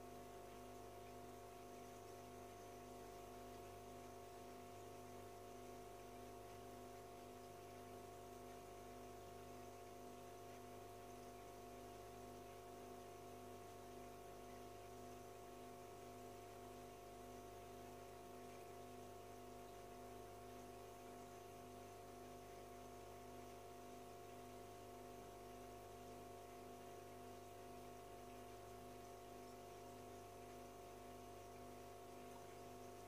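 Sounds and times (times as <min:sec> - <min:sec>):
aquarium filter motor hum: 0:00.0 - 0:33.0.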